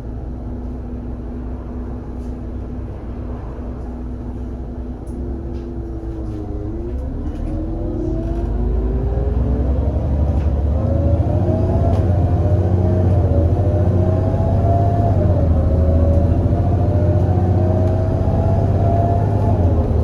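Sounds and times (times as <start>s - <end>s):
bus body rattling: 0.0s - 20.0s
bus engine accelerating: 0.0s - 20.0s.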